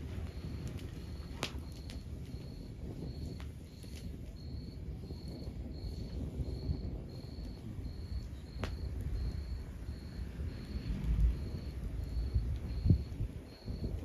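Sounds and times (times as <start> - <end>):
cricket chirping: 0.0 - 14.0
fire crackle pop: 0.0 - 14.0
wood fire rumbling: 0.0 - 14.0.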